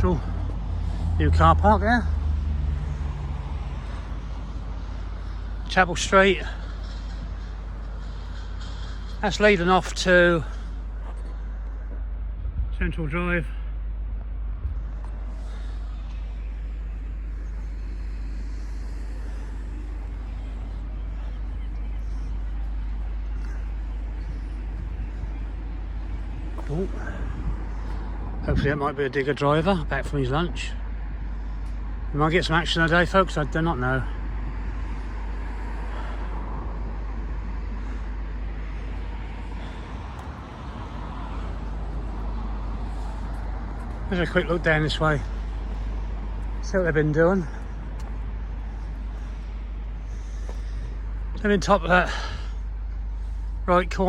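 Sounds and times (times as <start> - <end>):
deep rumble: 0.0 - 54.0
road traffic noise: 0.0 - 54.0.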